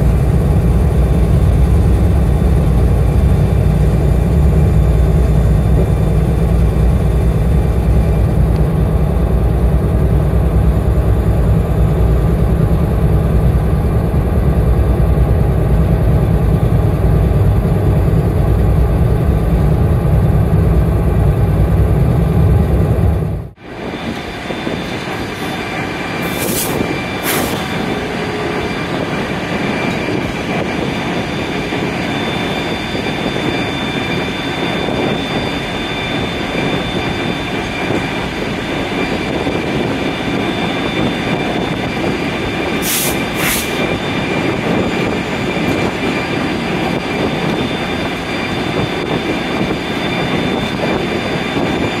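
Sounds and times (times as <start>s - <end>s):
train rumbling on track: 0.0s - 52.0s.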